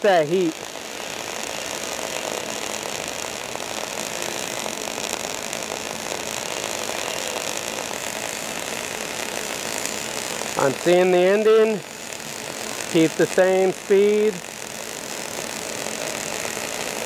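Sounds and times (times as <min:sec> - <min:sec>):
welding arc burning: 0:00.0 - 0:17.0.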